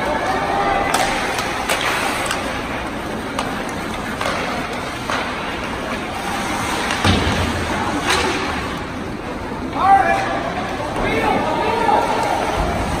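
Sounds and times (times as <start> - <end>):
hockey sticks and puck clacking: 0.0 - 13.0
skates on ice: 0.0 - 13.0.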